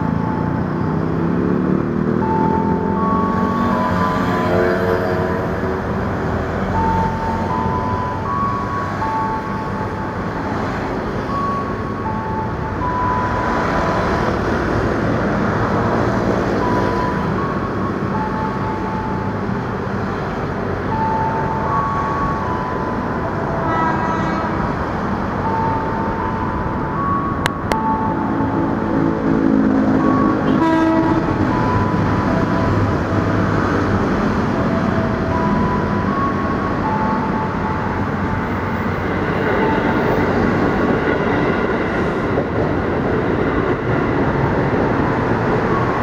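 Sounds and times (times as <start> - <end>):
road traffic noise: 0.0 - 46.0.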